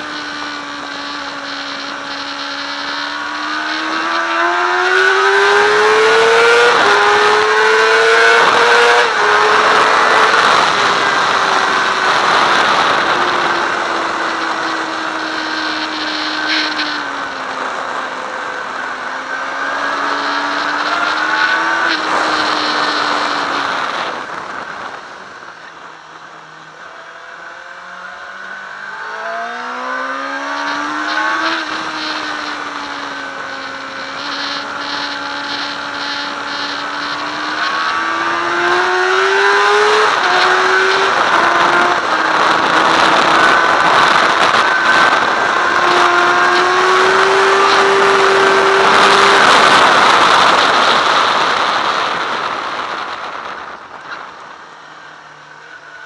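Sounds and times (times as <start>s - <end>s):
motorcycle engine at speed: 0.0s - 56.0s
wind rush: 3.2s - 26.2s, 29.2s - 55.0s.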